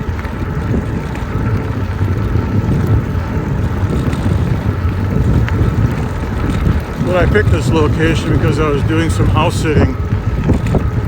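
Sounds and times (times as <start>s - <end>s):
wind and tyre rumble: 0.0s - 11.0s.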